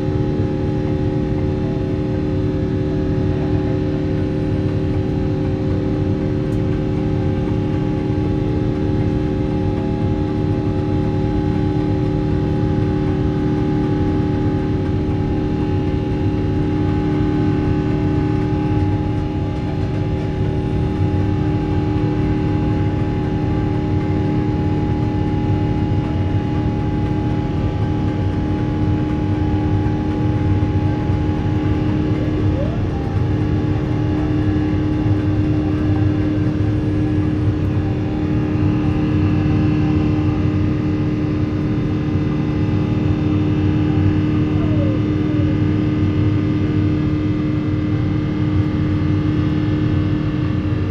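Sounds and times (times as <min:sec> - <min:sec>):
airliner cabin engine drone: 0:00.0 - 0:50.9
constant whining tones: 0:00.0 - 0:50.9.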